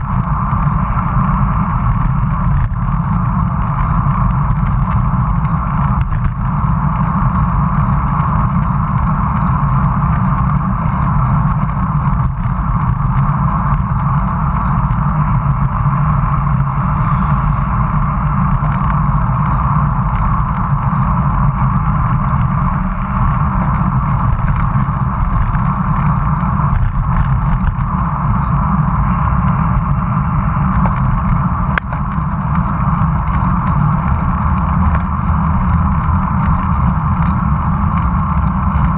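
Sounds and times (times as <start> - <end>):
road rumble: 0.0 - 38.9
wind rush on microphone: 0.0 - 38.9.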